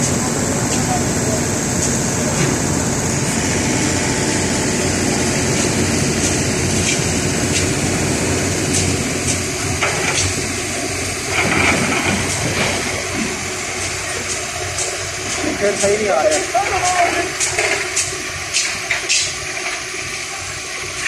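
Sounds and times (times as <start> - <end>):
heavy machinery engine running: 0.0 - 21.0.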